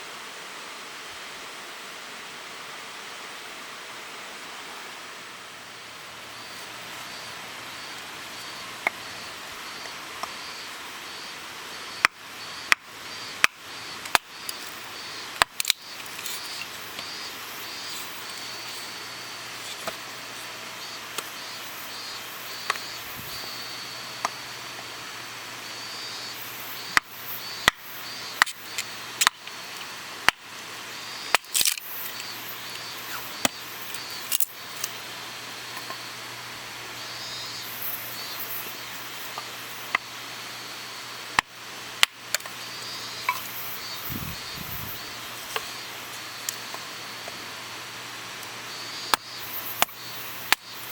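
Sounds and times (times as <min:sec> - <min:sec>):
insects chirping: 0:04.3 - 0:50.9
wood crackling in a campfire: 0:06.0 - 0:24.8, 0:25.6 - 0:50.9.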